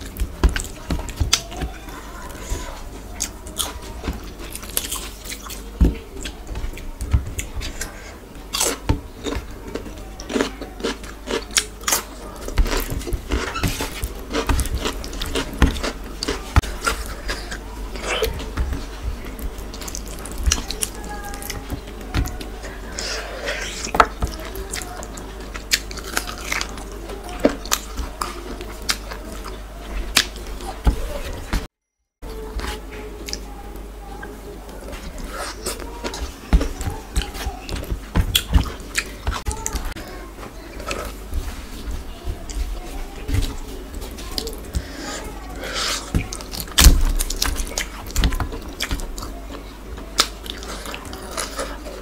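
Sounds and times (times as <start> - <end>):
chewing: 0.0 - 31.7, 32.3 - 52.0
food mixed by hand: 0.0 - 52.0.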